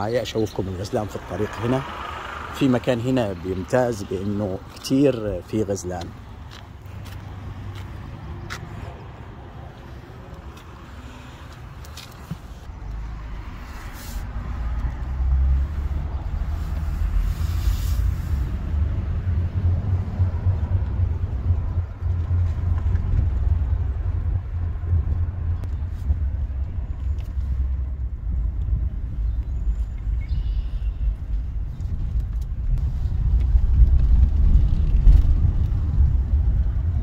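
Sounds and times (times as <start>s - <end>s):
car driving slowly: 0.0s - 37.0s.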